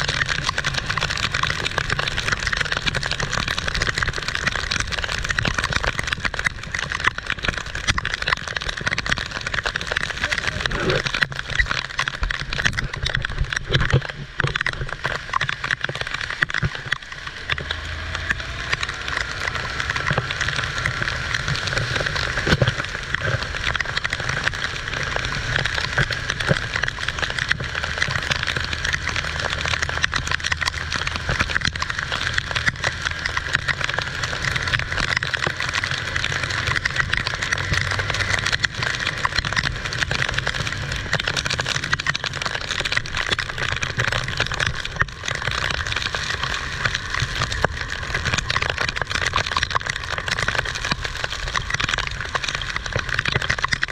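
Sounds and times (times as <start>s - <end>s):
heavy rain pattering: 0.0s - 53.9s.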